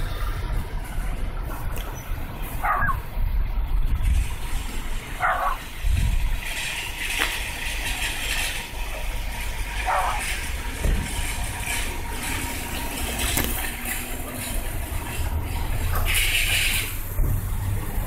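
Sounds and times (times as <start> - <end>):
low traffic rumble: 0.0 - 18.0
vehicle passing: 0.0 - 18.0.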